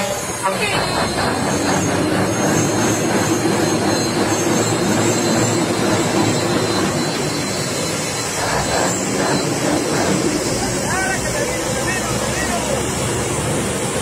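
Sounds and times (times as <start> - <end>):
diesel truck engines droning: 0.0 - 14.0.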